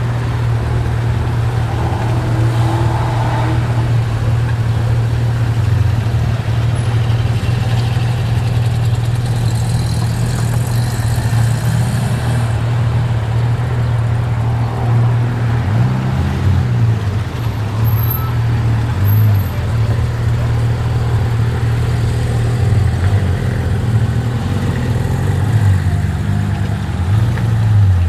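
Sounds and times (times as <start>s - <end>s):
car engines idling: 0.0s - 28.0s.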